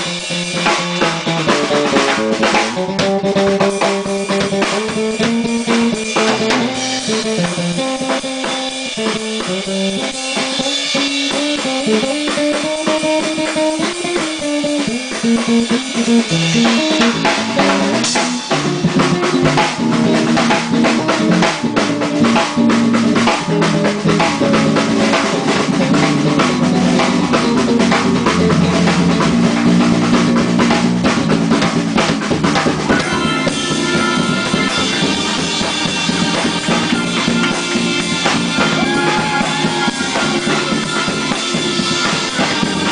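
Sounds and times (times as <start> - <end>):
jazz fusion band playing: 0.0 - 42.9.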